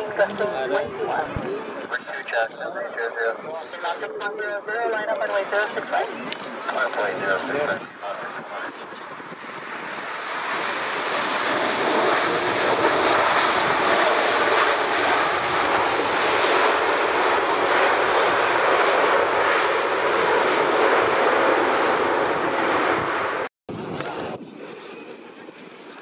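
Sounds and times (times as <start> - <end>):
jet airliner engines passing: 0.0 - 26.0.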